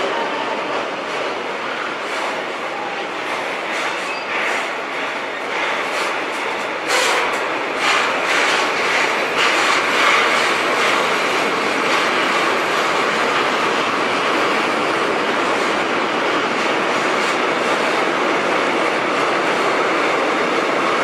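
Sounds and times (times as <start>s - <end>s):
train wheels rushing on rails: 0.0s - 21.0s.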